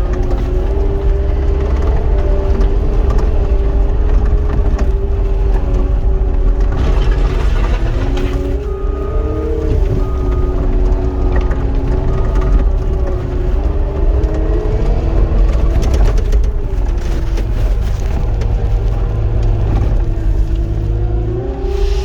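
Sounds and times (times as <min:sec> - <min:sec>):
rattling and clatter: 0:00.0 - 0:21.0
diesel engine and hydraulic whine: 0:00.0 - 0:22.0.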